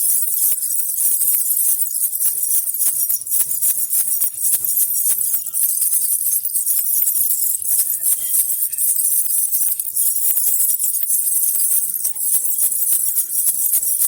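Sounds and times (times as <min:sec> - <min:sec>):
baby rattle bells jingling: 0:00.0 - 0:14.0.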